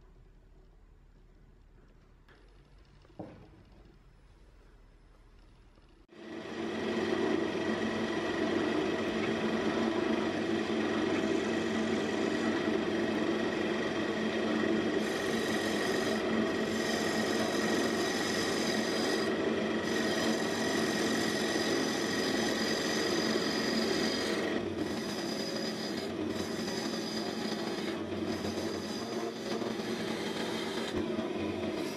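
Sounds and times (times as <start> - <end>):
wood lathe hum: 6.1 - 31.9
gouge scraping spinning wood: 6.3 - 31.9.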